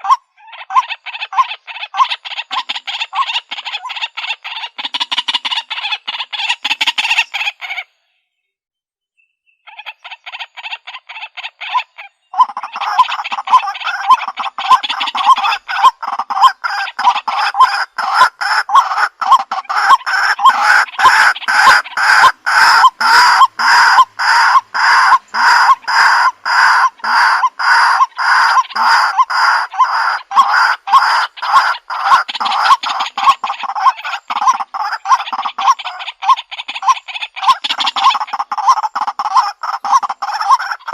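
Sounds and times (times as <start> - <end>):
waterhen calling: 0.0 - 7.9, 9.6 - 40.9.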